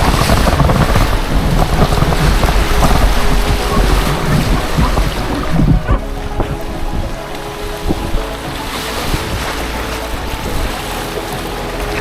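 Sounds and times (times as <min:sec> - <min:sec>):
rushing whitewater: 0:00.0 - 0:12.0
wind buffeting microphone: 0:00.0 - 0:12.0.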